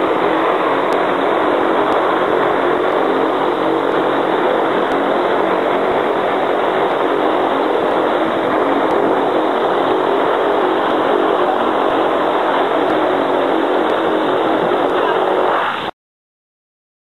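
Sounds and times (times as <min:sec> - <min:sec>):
airship engines and propellers droning: 0:00.0 - 0:15.9.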